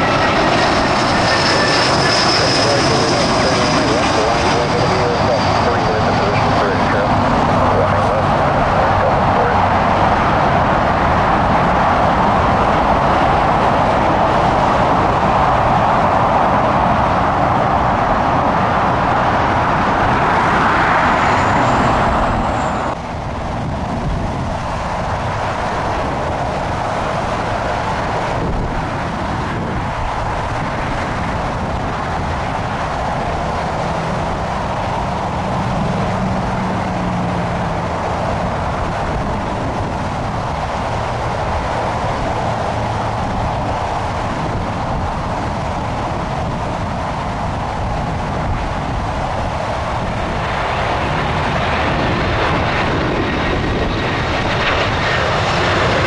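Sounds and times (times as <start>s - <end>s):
jet airliner engine noise: 0.0s - 56.0s.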